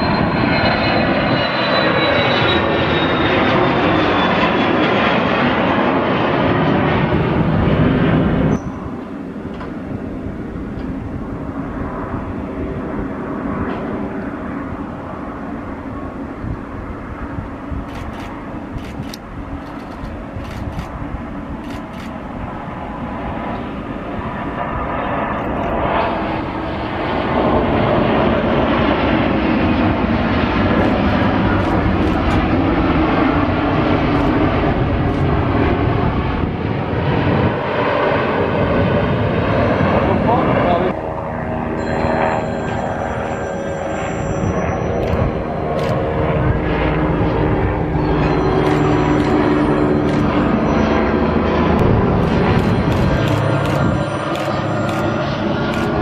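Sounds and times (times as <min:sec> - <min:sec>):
jet climbing after takeoff: 0:00.0 - 0:56.0
jet landing and rolling out: 0:00.0 - 0:56.0.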